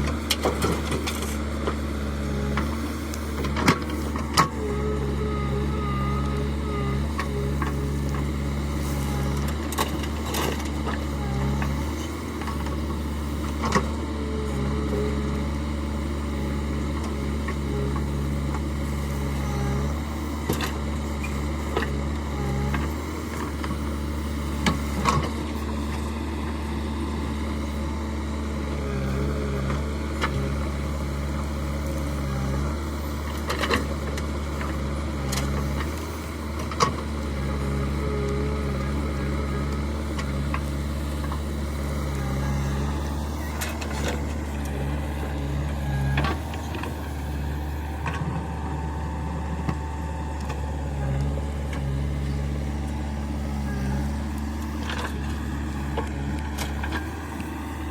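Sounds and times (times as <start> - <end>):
heavy machinery diesel engine: 0.0 - 57.9.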